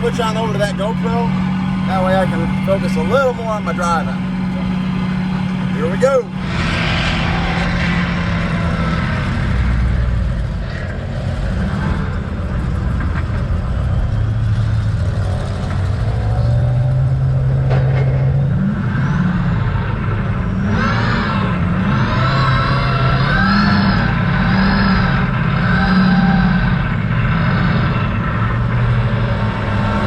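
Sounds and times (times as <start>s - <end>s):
diesel truck engine running: 0.0s - 30.0s
rising whine: 0.0s - 30.0s.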